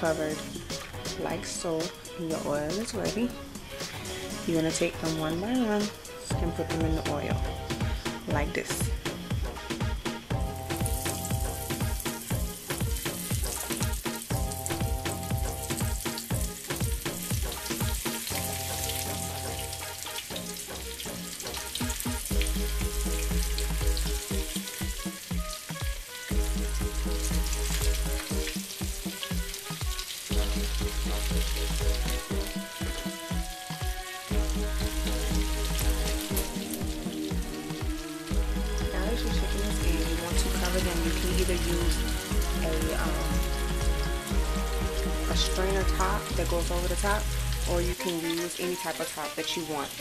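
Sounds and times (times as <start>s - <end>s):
background music with beat: 0.0s - 49.3s
chicken sizzling in hot oil: 0.0s - 50.0s.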